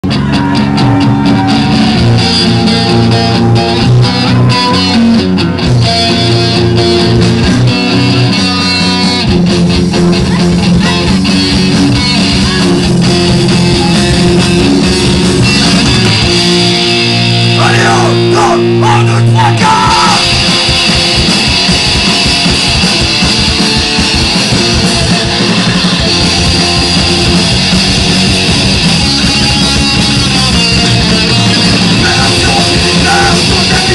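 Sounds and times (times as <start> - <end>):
distorted electric guitars: 0.0 - 33.9
drums: 0.0 - 33.9
punk band playing live: 0.0 - 33.9.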